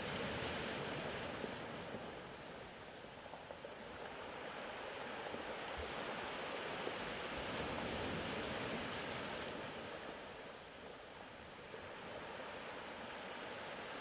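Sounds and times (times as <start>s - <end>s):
soft ocean waves washing in: 0.0s - 14.0s.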